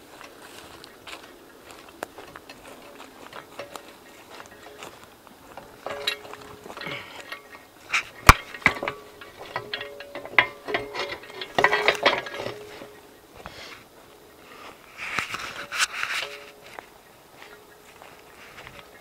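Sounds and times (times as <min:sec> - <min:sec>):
footsteps crunching on forest floor: 0:00.0 - 0:19.0
twigs cracking underfoot: 0:00.0 - 0:19.0.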